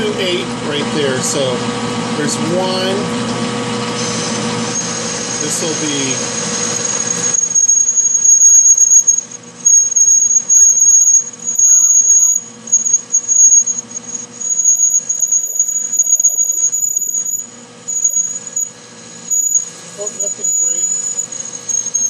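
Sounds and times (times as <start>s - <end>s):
lathe running hum: 0.0s - 22.0s
drill bit squealing in steel: 3.9s - 22.0s.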